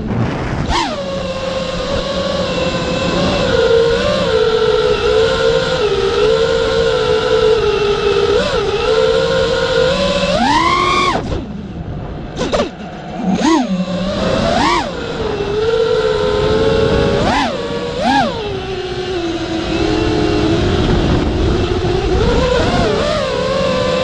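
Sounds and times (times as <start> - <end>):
rc car motor whine: 0.0 - 24.0.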